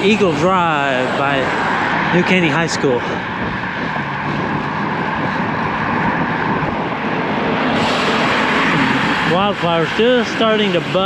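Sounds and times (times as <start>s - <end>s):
road traffic: 0.0s - 11.0s
wind noise: 0.0s - 11.0s.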